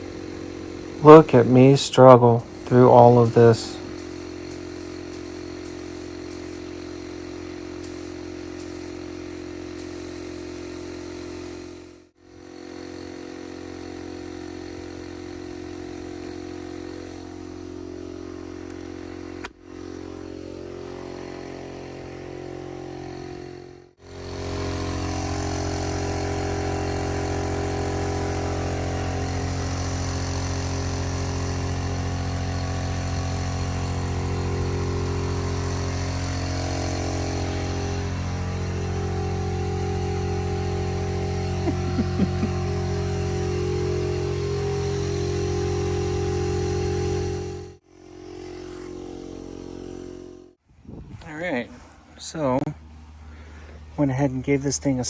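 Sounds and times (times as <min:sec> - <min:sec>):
steady motor hum: 0:00.0 - 0:55.0.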